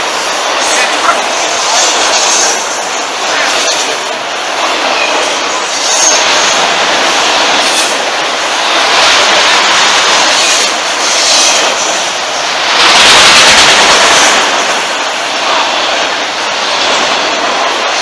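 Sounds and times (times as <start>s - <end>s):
train wheels rattling on rails: 0.0s - 18.0s.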